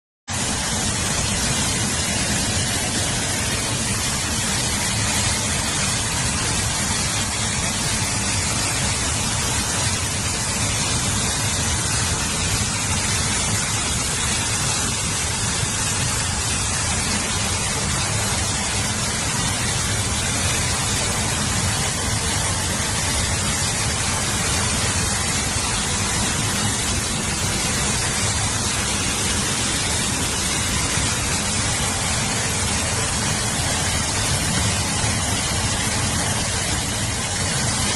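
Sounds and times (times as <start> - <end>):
heavy rushing water: 0.3 - 37.9.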